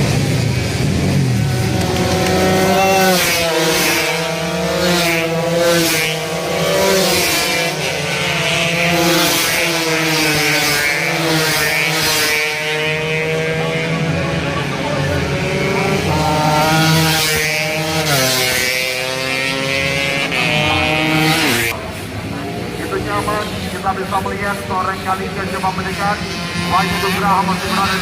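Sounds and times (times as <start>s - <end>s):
racing motorcycles revving: 0.0s - 28.0s.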